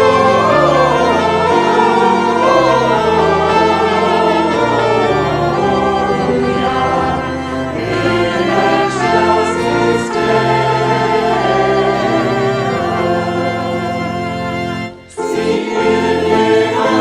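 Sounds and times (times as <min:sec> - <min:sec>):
organ music: 0:00.0 - 0:17.0
voices singing a hymn: 0:00.0 - 0:17.0.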